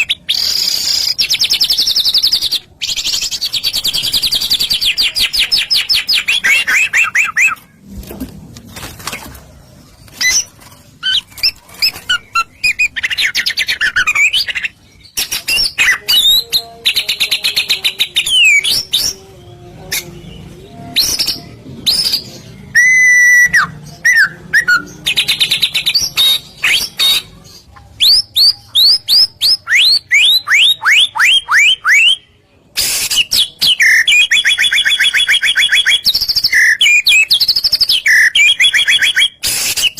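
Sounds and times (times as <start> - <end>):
songbird singing trills and whistles: 0.0 - 7.6, 10.1 - 19.3, 19.9 - 39.9.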